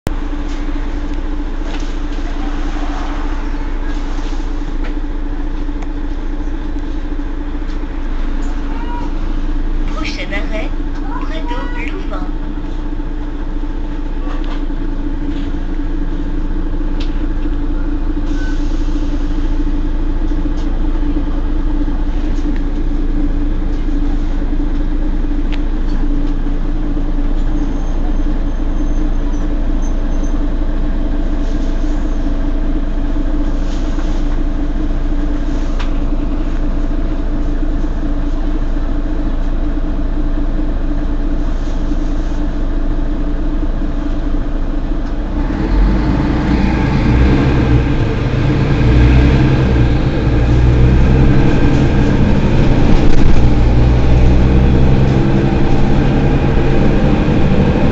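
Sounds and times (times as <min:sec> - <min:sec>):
bus engine idling: 0:00.0 - 0:57.9.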